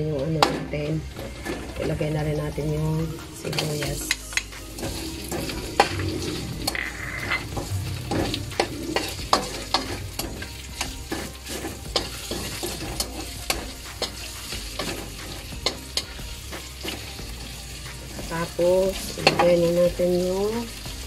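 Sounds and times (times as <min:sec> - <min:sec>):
onion sizzling in oil: 0:00.0 - 0:21.0
metal spatula scraping wok: 0:00.4 - 0:21.0.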